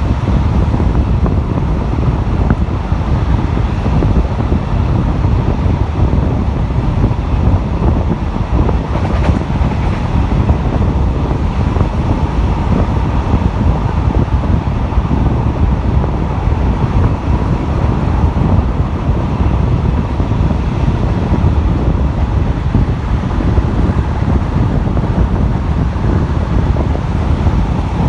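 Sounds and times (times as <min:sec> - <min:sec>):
train wheels rumbling on rail: 0:00.0 - 0:28.0
wind buffeting microphone: 0:00.0 - 0:28.0.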